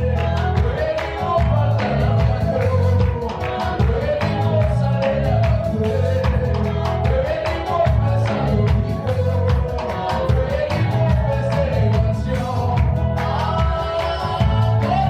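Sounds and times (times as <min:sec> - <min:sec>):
bass guitar: 0:00.0 - 0:15.0
gospel band playing: 0:00.0 - 0:15.0
guitar: 0:00.0 - 0:15.0
person singing: 0:00.0 - 0:15.0.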